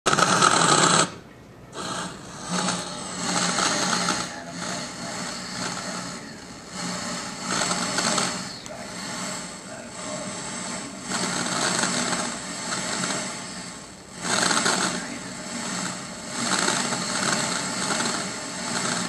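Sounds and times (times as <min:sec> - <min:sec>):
low hum: 0:00.1 - 0:19.0
tv static hiss: 0:00.1 - 0:19.0.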